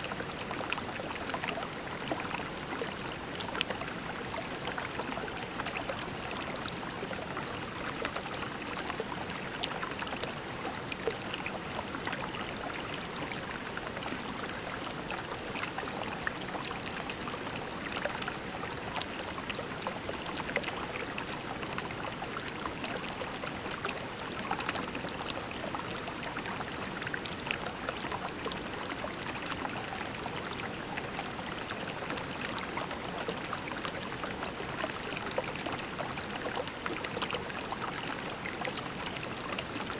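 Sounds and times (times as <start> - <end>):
creek babbling over pebbles: 0.0 - 39.9.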